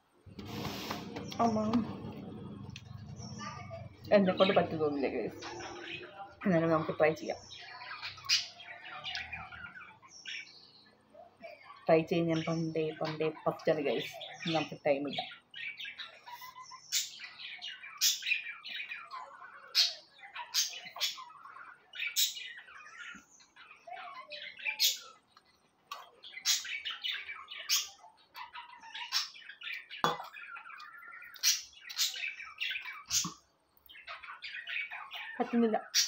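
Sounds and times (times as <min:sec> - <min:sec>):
birds chirping and squawking: 0:00.0 - 0:36.0.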